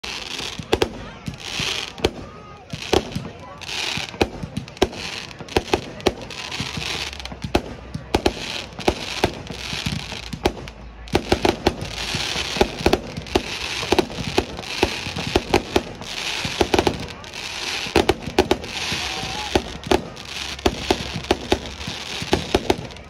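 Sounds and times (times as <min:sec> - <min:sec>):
crackling hiss of fireworks: 0:00.0 - 0:23.0
fireworks bangs: 0:00.0 - 0:23.0.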